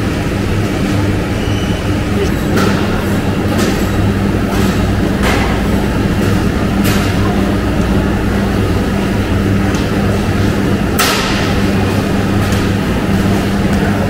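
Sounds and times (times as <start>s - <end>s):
machinery hum and rumble: 0.0s - 14.0s.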